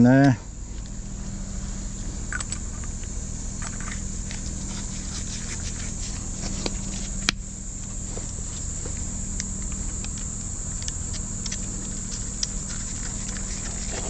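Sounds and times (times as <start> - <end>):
insect chirring: 0.0 - 14.0
low steady hum: 0.0 - 14.0.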